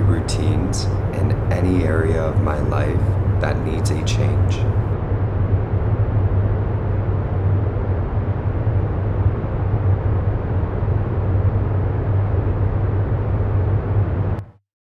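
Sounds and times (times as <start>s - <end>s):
steady low rumbling: 0.0s - 14.4s.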